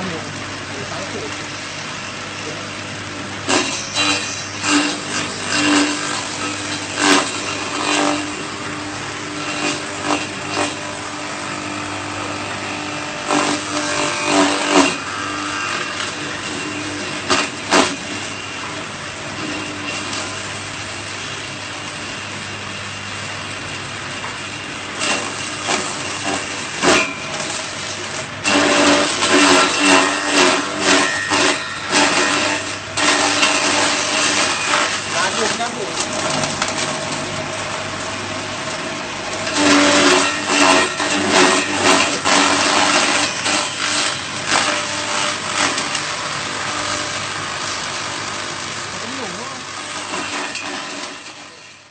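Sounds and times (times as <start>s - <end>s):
electric motor humming: 0.0s - 51.6s.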